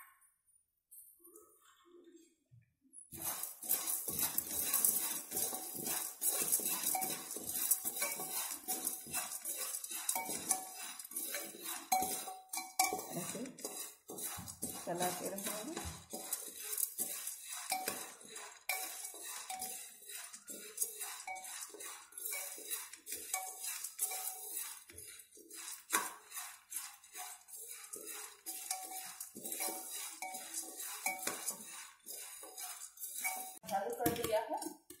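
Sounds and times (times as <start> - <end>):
spoon scraping kernels in pot: 3.1 - 35.0.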